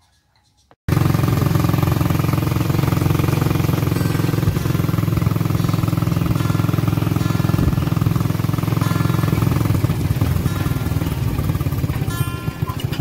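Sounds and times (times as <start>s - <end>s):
small engine running: 0.9s - 13.0s.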